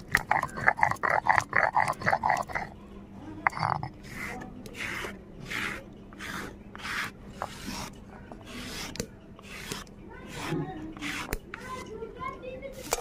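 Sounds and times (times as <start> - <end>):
paste scraped off stone: 0.0 - 2.7, 3.5 - 11.8
stone roller grinding on stone: 0.0 - 2.7, 3.4 - 13.0.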